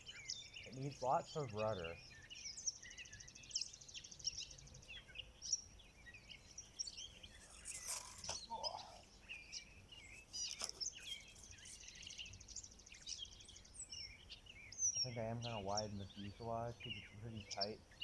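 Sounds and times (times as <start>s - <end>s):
birds chirping and singing: 0.0s - 18.0s.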